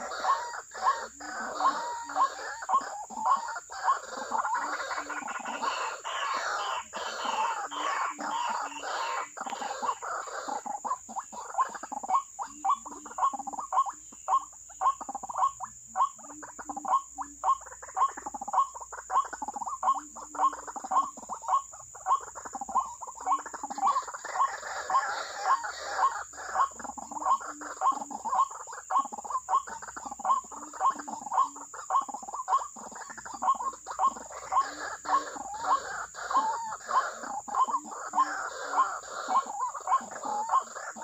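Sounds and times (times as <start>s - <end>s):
waterhen calls: 0.0s - 41.0s.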